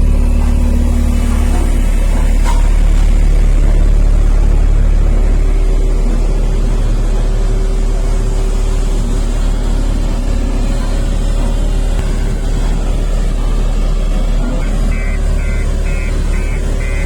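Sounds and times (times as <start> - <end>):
diesel engine low rumble: 0.0 - 17.0.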